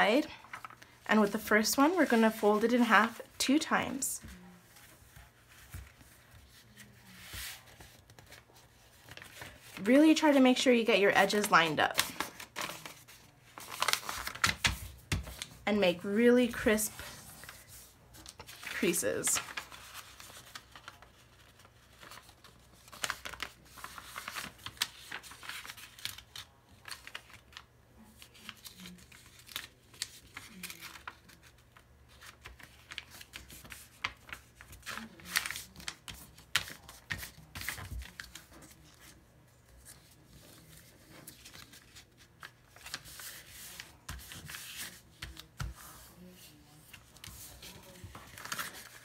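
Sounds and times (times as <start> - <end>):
paper rustling and crinkling: 0.0 - 10.4, 11.1 - 15.6, 16.2 - 49.0.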